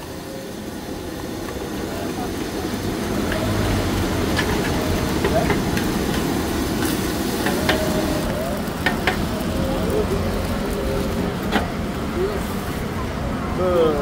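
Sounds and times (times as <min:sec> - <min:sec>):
food sizzling: 0:00.0 - 0:14.0
stove flame hissing: 0:00.0 - 0:14.0.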